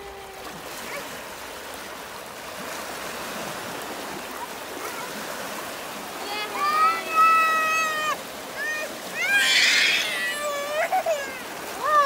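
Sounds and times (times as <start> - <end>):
small waves washing over rocks: 0.0 - 12.0.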